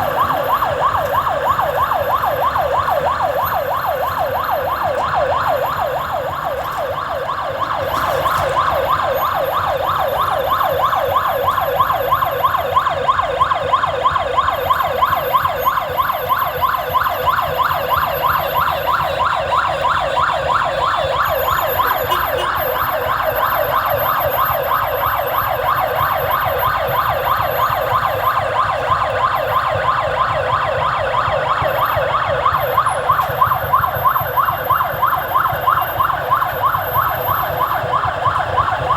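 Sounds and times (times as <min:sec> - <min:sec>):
vehicle siren yelping: 0:00.0 - 0:38.9.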